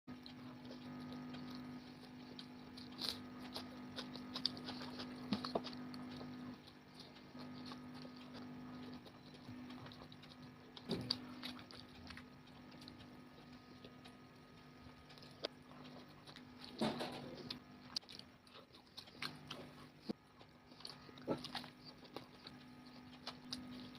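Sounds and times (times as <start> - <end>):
chewing and food handling clicks: 0.1 - 23.9
steady low hum: 0.1 - 23.9.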